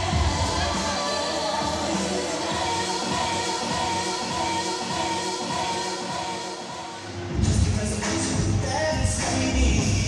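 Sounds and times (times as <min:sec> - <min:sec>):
dance music: 0:00.0 - 0:10.0.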